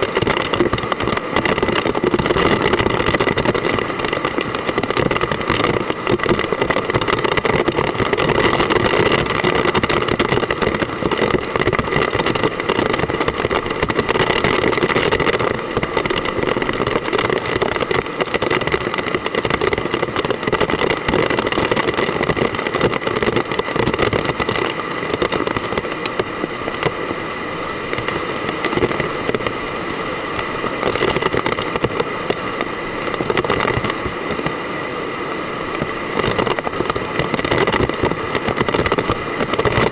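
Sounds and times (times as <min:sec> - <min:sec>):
heavy rain pelting down: 0:00.0 - 0:39.9
wind: 0:00.0 - 0:39.9.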